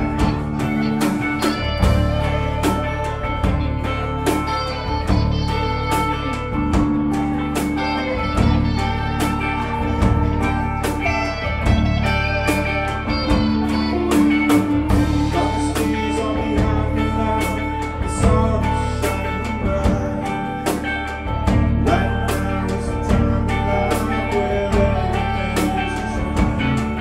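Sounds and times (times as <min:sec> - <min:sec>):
bass guitar: 0:00.0 - 0:27.0
drum kit steady beat: 0:00.0 - 0:27.0
electric and acoustic guitars: 0:00.0 - 0:27.0.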